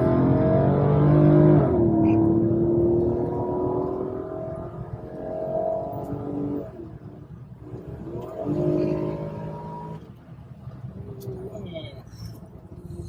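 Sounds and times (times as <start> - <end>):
car engine accelerating: 0.0 - 11.5.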